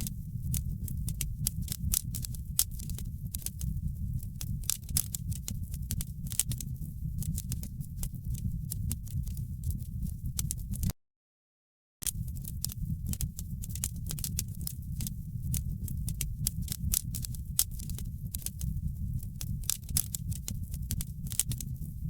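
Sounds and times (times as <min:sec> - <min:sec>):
steady low rumble: 0:00.0 - 0:10.9, 0:12.0 - 0:22.0
wood fire crackling: 0:00.0 - 0:10.9, 0:12.0 - 0:22.0.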